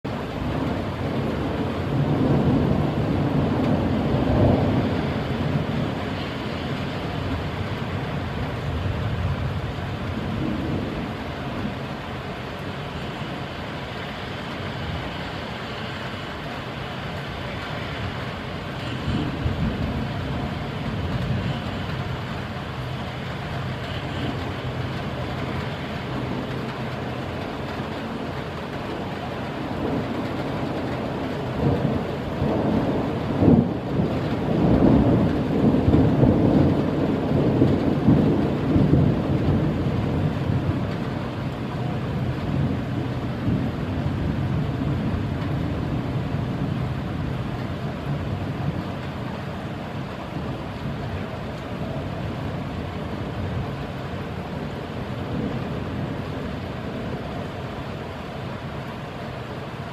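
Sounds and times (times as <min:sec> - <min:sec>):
steady rain falling: 0:00.0 - 0:59.9
rolling thunder: 0:00.1 - 0:59.9.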